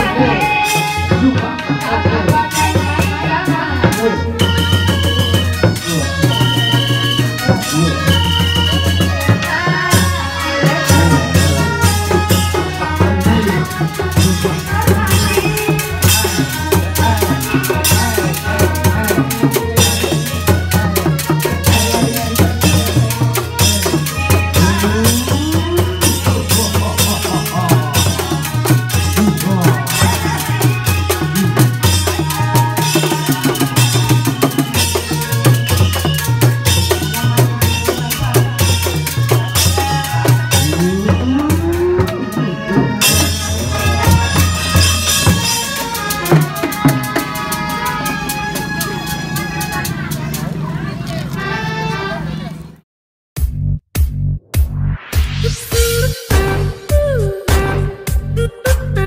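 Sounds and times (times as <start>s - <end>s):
drums beating fast rhythm: 0.0s - 51.4s, 53.4s - 59.0s
rattling percussion: 0.0s - 51.4s.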